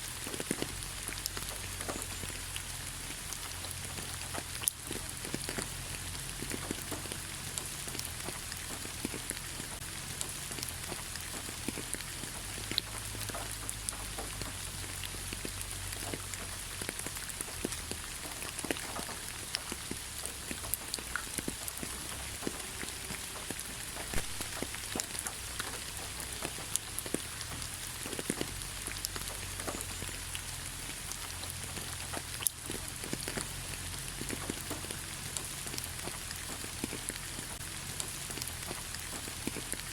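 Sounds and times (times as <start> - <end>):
rain hiss: 0.0 - 39.9
raindrops ticking: 0.0 - 39.9.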